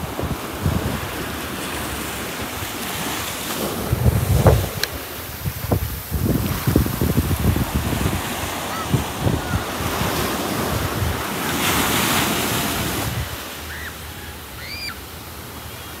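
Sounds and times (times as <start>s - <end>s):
wind buffeting microphone: 0.0s - 13.5s
ocean surf washing in: 0.0s - 16.0s.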